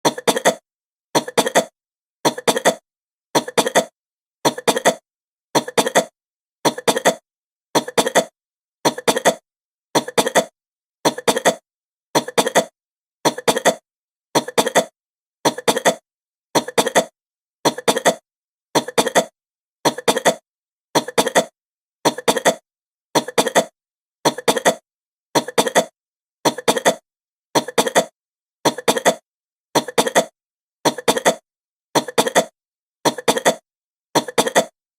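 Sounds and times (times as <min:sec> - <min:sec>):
woman coughing: 0:00.1 - 0:00.6, 0:01.2 - 0:02.8, 0:03.4 - 0:05.0, 0:05.6 - 0:07.2, 0:07.8 - 0:09.4, 0:10.0 - 0:11.6, 0:12.2 - 0:18.2, 0:18.8 - 0:27.0, 0:27.6 - 0:34.8.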